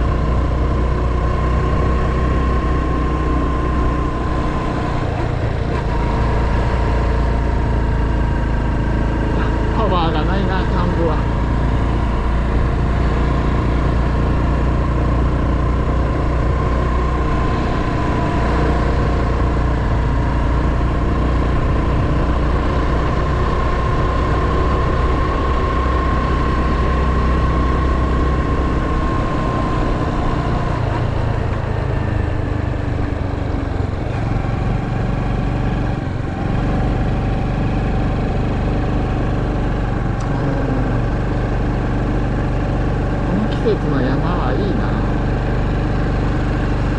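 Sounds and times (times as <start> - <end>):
motorcycle engine running: 0.0 - 46.9
steady engine whine: 0.0 - 46.9.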